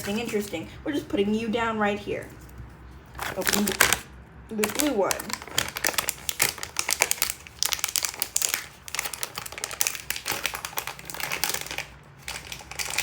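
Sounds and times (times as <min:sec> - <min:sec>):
plastic packaging crinkling: 0:02.4 - 0:13.0.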